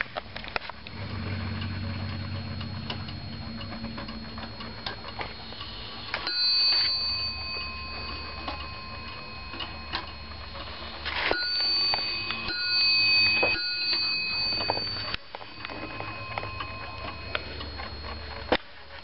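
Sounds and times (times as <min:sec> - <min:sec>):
wall clock ticking: 0:00.8 - 0:18.5.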